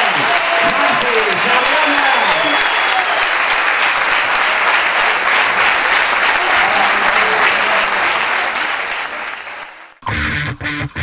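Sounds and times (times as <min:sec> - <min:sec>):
voices: 0:00.0 - 0:09.8
crowd applauding: 0:00.0 - 0:10.0.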